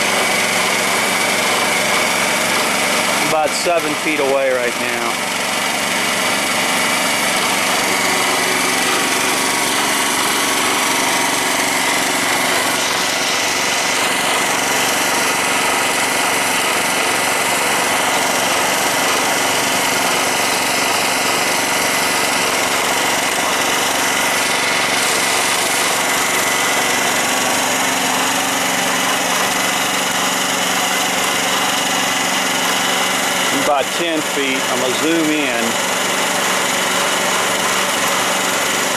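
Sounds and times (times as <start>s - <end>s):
generator engine humming: 0.0s - 38.9s.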